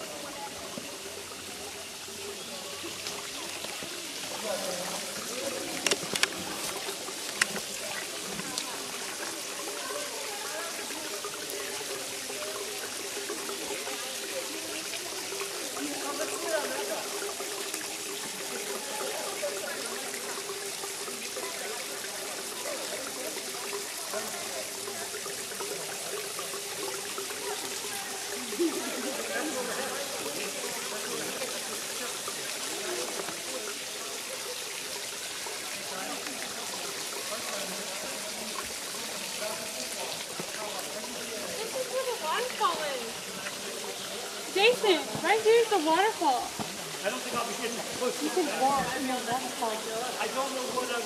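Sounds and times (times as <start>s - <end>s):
water trickling over rock: 0.0s - 51.0s.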